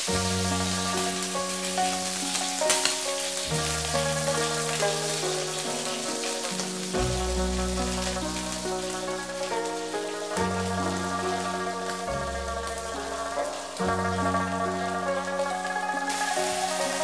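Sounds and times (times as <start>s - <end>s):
background music of held chords: 0.0s - 17.0s
greens sizzling in a frying pan: 0.0s - 17.0s.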